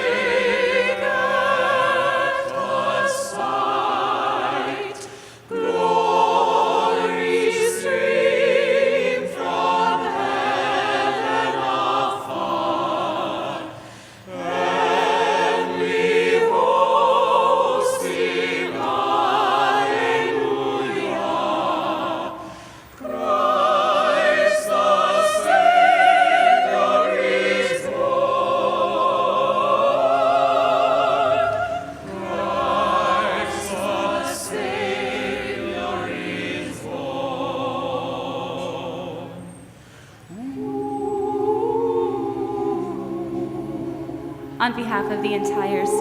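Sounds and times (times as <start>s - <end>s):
choir singing a carol: 0.0s - 46.0s.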